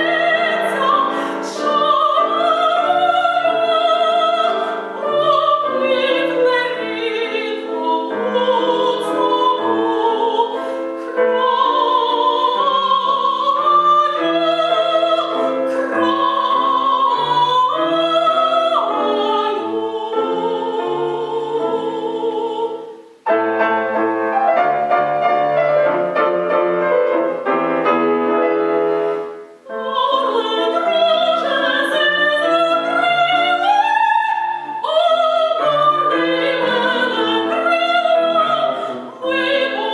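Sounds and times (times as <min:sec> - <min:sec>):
soprano singing opera: 0:00.0 - 0:24.1, 0:29.6 - 0:39.9
piano accompaniment: 0:00.0 - 0:39.9.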